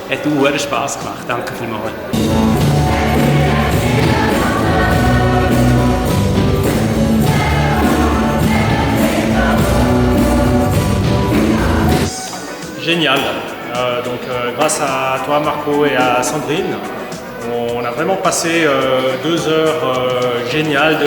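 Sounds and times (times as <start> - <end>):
band accompaniment with steady beat: 2.1 - 21.0
group of voices singing: 2.1 - 21.0.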